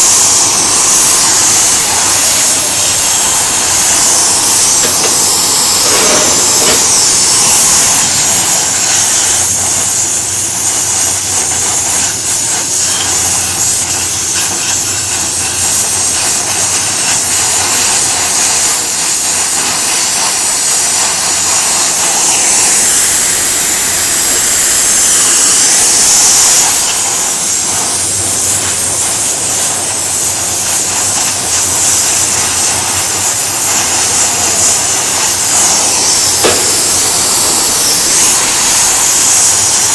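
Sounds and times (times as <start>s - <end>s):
welding torch flame hissing: 0.0s - 39.9s.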